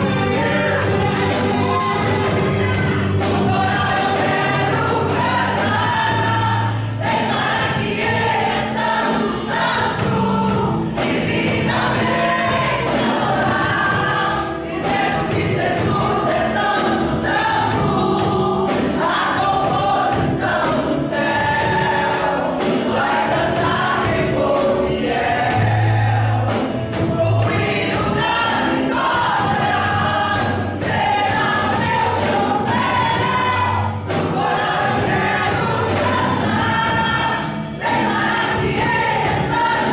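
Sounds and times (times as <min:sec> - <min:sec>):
instrumental accompaniment: 0:00.0 - 0:39.9
voices singing along: 0:00.0 - 0:39.9
woman singing into microphone: 0:00.0 - 0:39.9.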